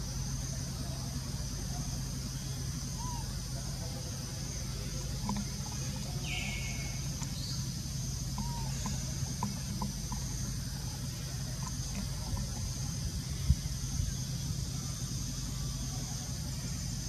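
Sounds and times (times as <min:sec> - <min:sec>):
low hum: 0:00.0 - 0:17.0
sweeping bird call: 0:02.2 - 0:17.0.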